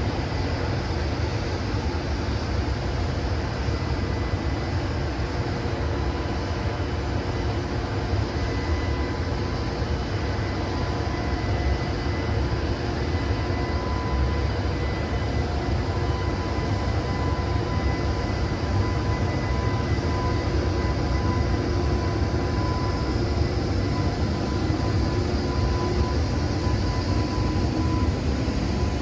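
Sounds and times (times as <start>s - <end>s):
locomotive cooling blowers humming: 0.0s - 29.0s.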